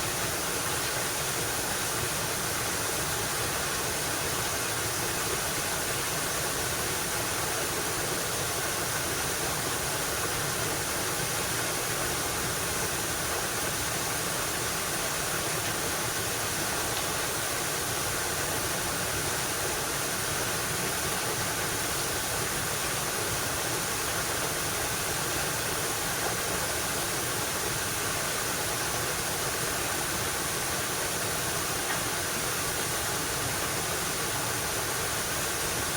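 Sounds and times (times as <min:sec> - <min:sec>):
river rushing over rocks: 0:00.0 - 0:35.9.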